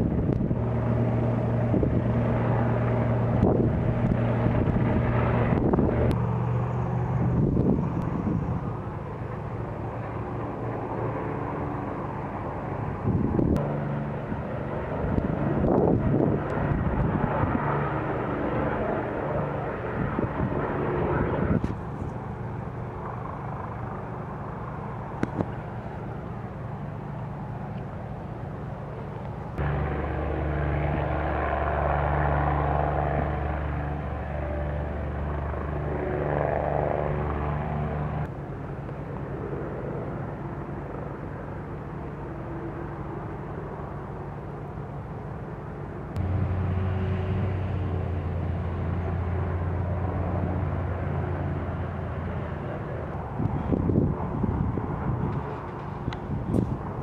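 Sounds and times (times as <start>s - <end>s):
distant helicopter drone: 0.0s - 57.0s.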